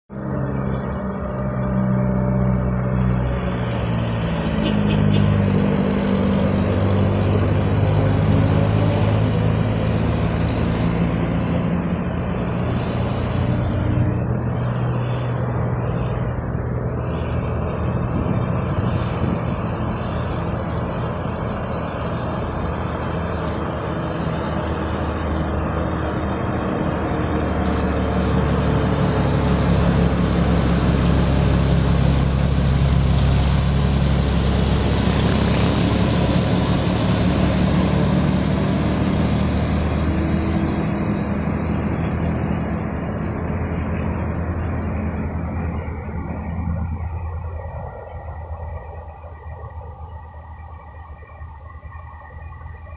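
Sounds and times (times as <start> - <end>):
diesel engines droning: 0.0 - 52.9
truck passing close by: 0.1 - 52.9.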